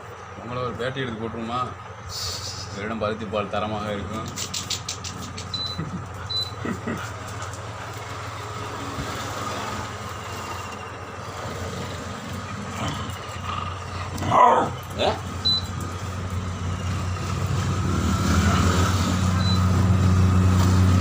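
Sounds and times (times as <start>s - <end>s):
engine noise: 0.0s - 21.0s.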